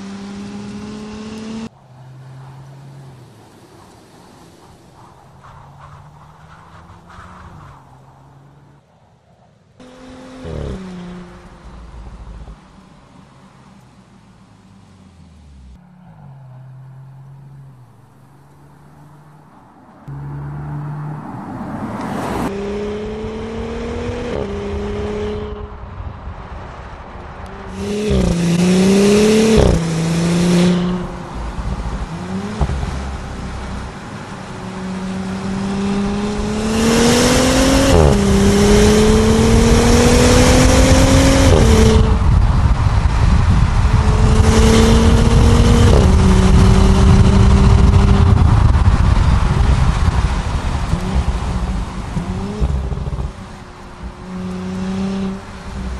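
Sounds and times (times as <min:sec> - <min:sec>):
car engine accelerating hard: 0:00.0 - 0:04.9, 0:09.8 - 0:55.9.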